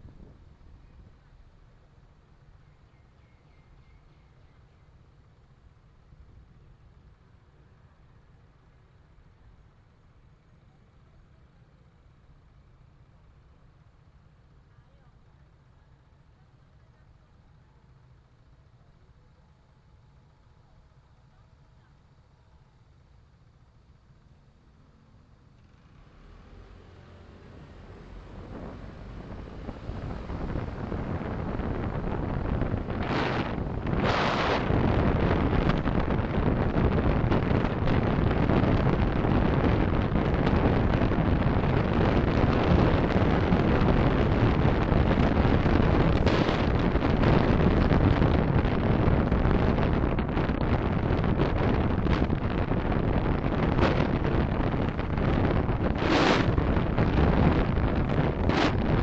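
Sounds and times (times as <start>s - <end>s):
road and wind noise in car: 0.0s - 59.0s.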